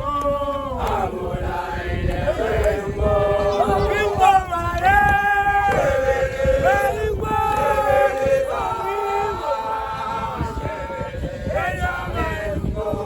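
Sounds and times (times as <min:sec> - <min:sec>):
men singing a chant: 0:00.0 - 0:13.0.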